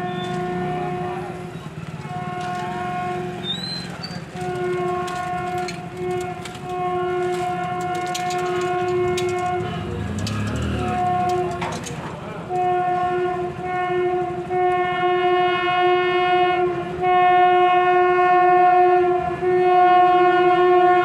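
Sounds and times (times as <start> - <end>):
locomotive horn blasts: 0.0 - 21.0
train rumbling: 0.0 - 21.0.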